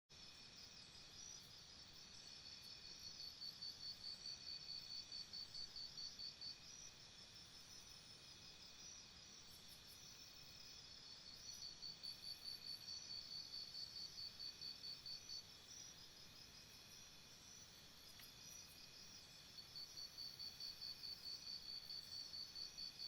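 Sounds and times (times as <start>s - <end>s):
insects trilling: 0.2s - 23.0s
pulsing insect chirp: 0.2s - 23.0s.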